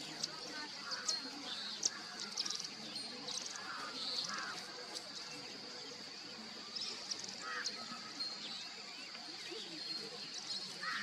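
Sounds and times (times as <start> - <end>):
birds chirping and trilling: 0.0 - 11.0
high insect drone: 0.0 - 11.0.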